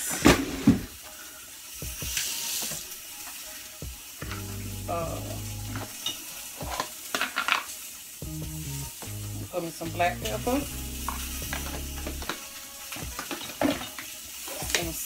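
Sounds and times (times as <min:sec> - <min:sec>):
sausage patties sizzling in pan: 0:00.0 - 0:15.0.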